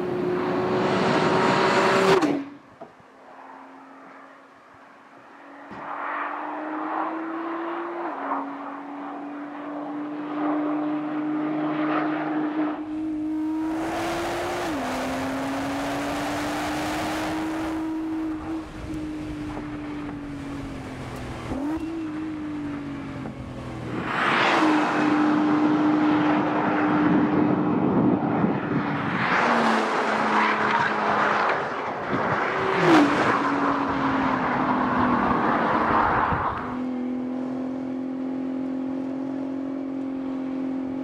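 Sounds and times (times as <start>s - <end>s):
car engine accelerating hard: 0.0s - 2.4s, 8.8s - 41.0s.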